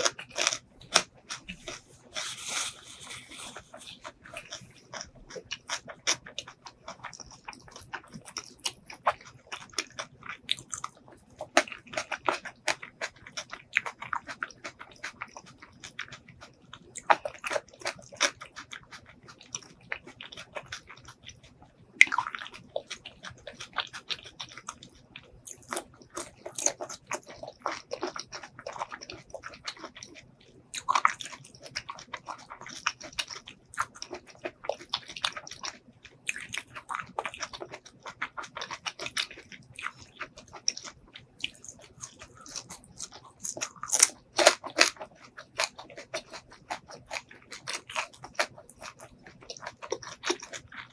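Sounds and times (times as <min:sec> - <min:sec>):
chewing crisp vegetable: 0:00.0 - 0:50.9.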